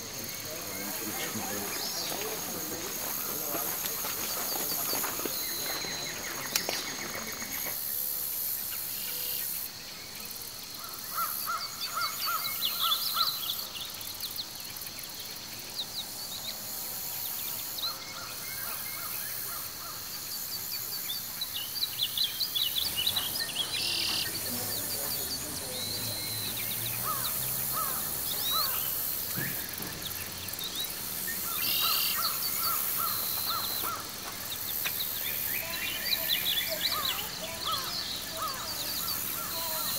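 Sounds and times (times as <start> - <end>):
forest birds calling and chirping: 0.0 - 39.9
steady high hiss: 0.0 - 39.9.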